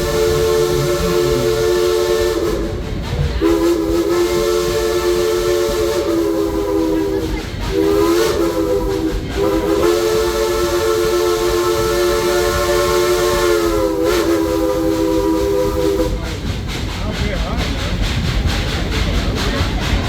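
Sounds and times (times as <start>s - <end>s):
steam whistle blasts: 0.0s - 16.2s
steam hissing: 0.0s - 20.0s.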